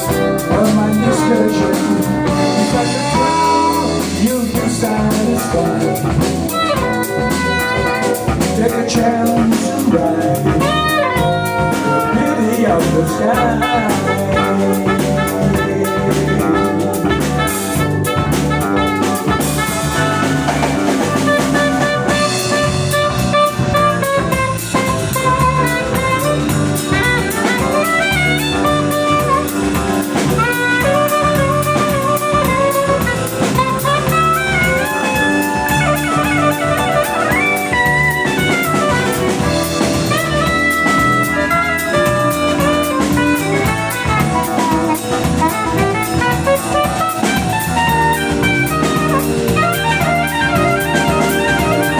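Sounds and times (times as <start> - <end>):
bass line: 0.0 - 51.9
drum kit: 0.0 - 51.9
horn melodic solo: 0.0 - 51.9.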